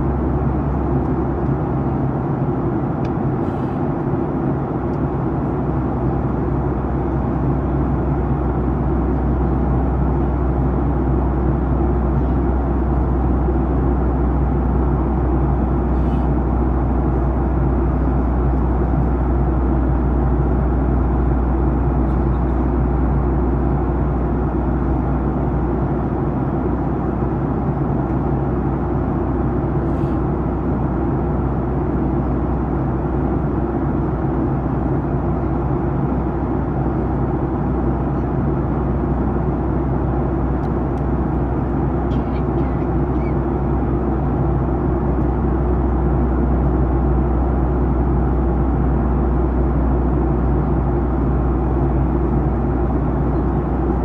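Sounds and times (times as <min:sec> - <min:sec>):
airflow over fuselage: 0:00.0 - 0:54.0
jet engine drone: 0:00.0 - 0:54.0
low steady hum: 0:00.0 - 0:54.0.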